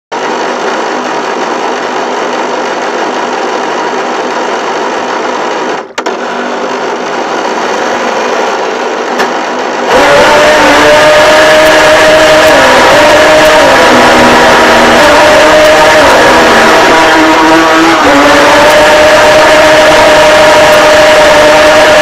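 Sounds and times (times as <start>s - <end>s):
model boat motor running: 0.2s - 22.0s
motor whine: 0.2s - 22.0s.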